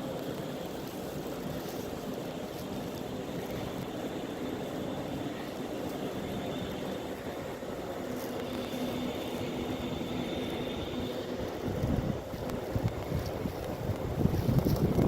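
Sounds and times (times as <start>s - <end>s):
blizzard wind blowing: 0.0s - 15.0s
faint steady hum: 0.0s - 15.0s
wind buffeting microphone: 0.0s - 15.0s.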